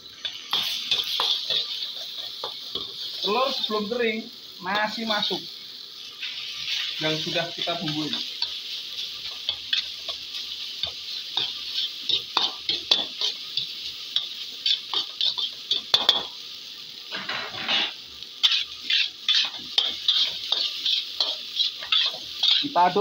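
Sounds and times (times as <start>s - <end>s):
metal spatula scraping wok: 0.0s - 4.0s, 4.6s - 16.4s, 17.1s - 23.0s
hot oil sizzling: 0.0s - 23.0s.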